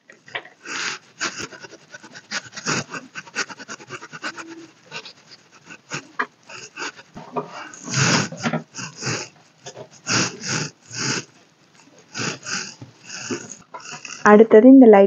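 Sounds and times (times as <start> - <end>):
makeup brush scratching on skin: 1.0 - 13.7.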